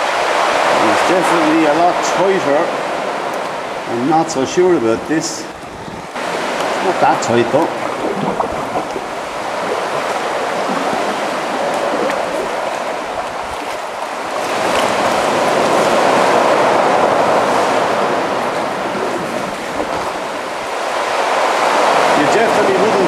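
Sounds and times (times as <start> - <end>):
sea water surging in cave: 0.0 - 23.0.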